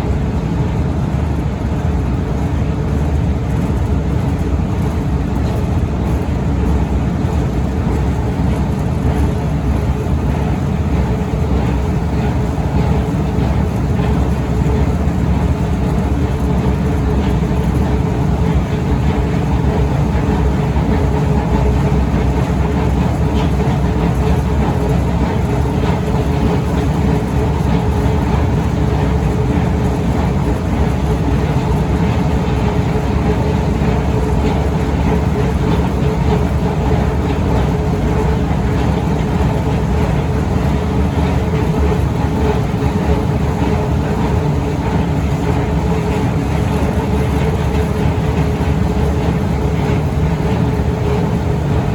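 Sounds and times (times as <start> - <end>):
escalator rumble and hum: 0.0 - 51.9.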